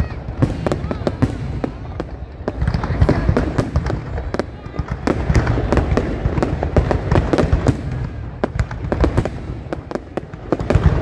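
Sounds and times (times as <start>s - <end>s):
fireworks bangs and crackling pops: 0.0s - 11.0s.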